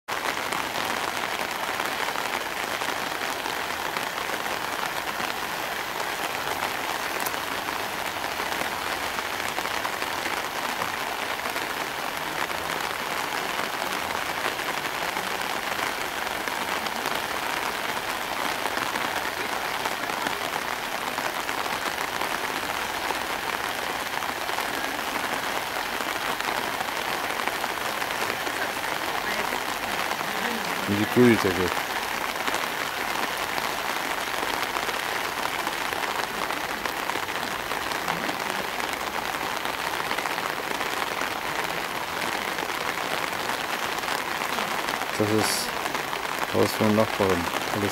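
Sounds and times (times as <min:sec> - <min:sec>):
rain falling on water: 0:00.1 - 0:47.9.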